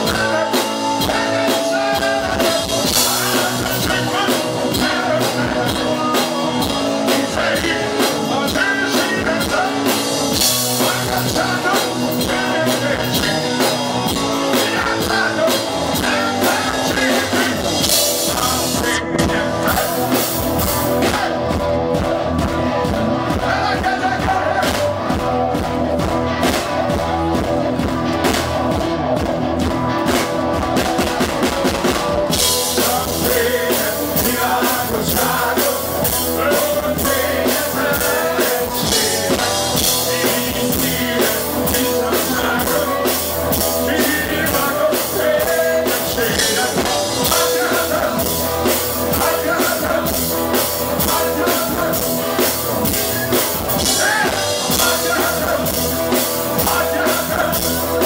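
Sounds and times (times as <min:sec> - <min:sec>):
live blues band playing: 0:00.0 - 0:58.0.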